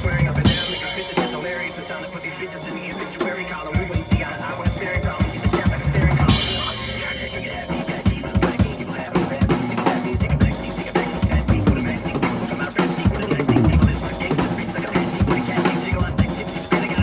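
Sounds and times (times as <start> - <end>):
drum kit playing: 0.0 - 17.0
music backing track: 0.0 - 17.0.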